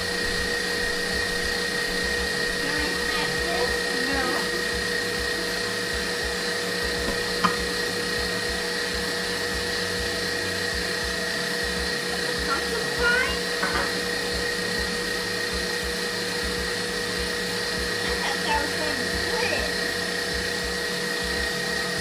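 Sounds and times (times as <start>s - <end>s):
electric mixer motor whine: 0.0s - 22.0s.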